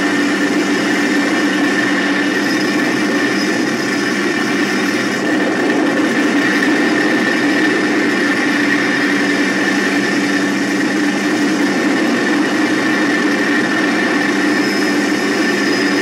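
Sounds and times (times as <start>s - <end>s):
helicopter engine and rotor noise: 0.0s - 16.0s
high whine: 0.0s - 16.0s.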